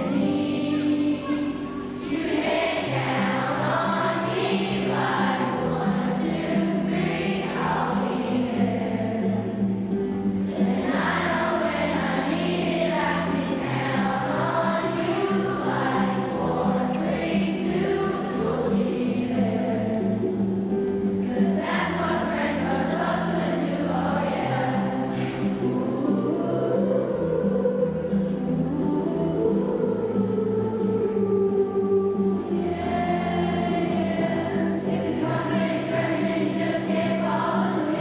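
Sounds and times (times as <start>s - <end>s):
children's choir singing: 0.0s - 38.0s
music accompaniment with low notes: 0.0s - 38.0s.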